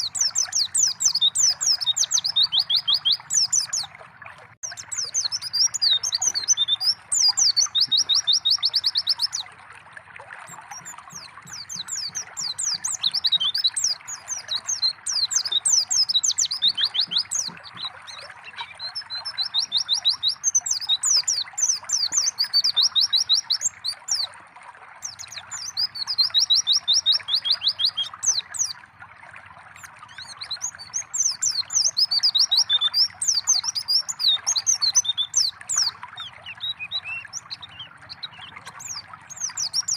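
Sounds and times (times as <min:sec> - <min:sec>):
bird chirping and trilling: 0:00.0 - 0:04.0, 0:04.6 - 0:09.5, 0:10.5 - 0:24.3, 0:25.0 - 0:28.8, 0:29.8 - 0:39.9
water trickling: 0:00.0 - 0:39.9.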